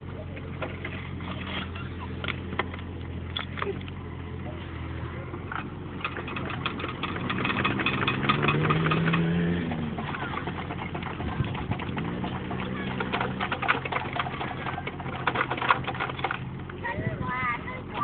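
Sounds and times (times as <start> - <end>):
excavator engine running: 0.0 - 18.0
clicks and rattles: 0.3 - 4.0, 5.4 - 16.8.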